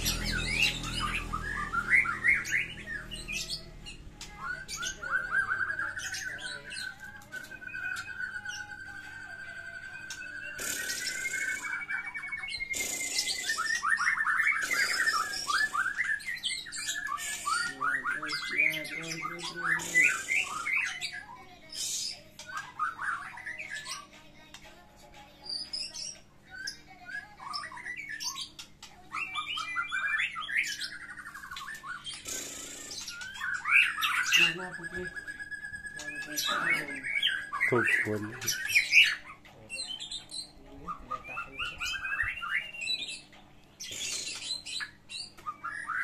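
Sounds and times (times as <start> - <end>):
bird harsh rasping chatter: 0.0 - 7.0, 10.0 - 24.6, 25.6 - 46.0
songbird whistles and trills: 0.0 - 24.6, 25.4 - 46.0.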